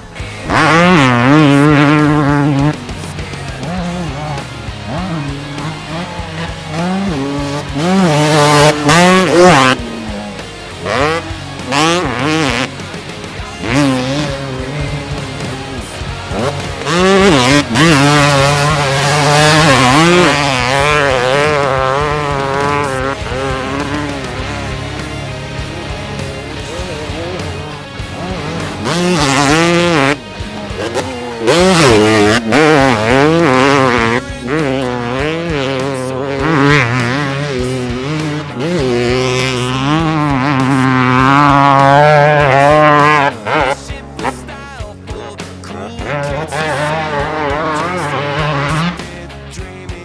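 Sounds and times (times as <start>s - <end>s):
dirt bike engine revving hard: 0.0s - 50.0s.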